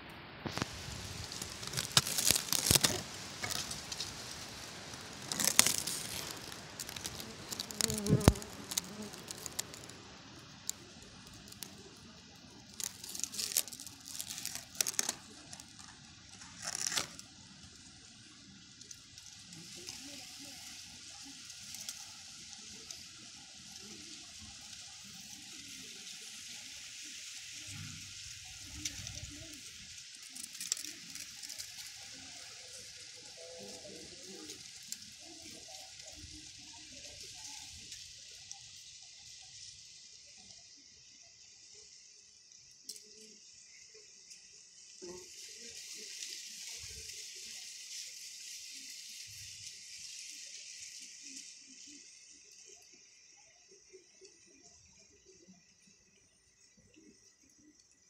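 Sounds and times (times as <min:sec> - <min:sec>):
faint steady hiss: 0:00.0 - 0:58.0
dry leaves and twigs crackling: 0:00.4 - 0:58.0.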